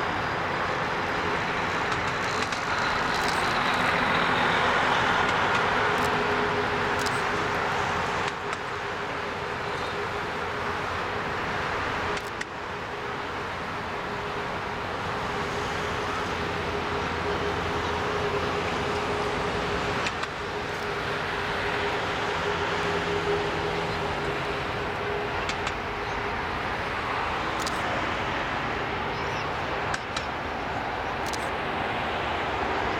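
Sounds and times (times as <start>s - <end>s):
jet engines rushing with whine: 0.0s - 32.9s.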